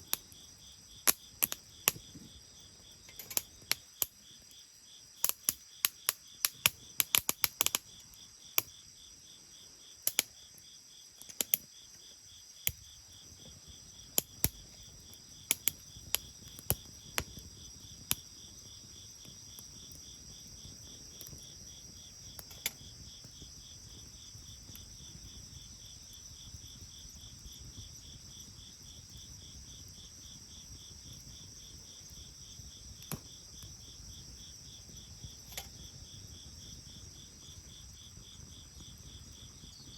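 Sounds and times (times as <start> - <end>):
bonfire crackling and popping: 0.0 - 4.6, 5.2 - 8.8, 10.0 - 10.6, 11.2 - 39.9
insects chirping: 0.0 - 39.9.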